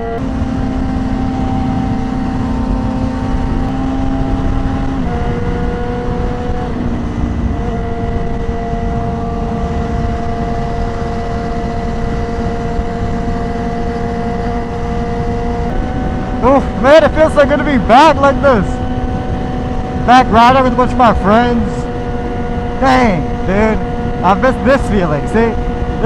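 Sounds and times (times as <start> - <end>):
motorcycle engine cruising: 0.0 - 26.0
wind and road rush: 0.0 - 26.0.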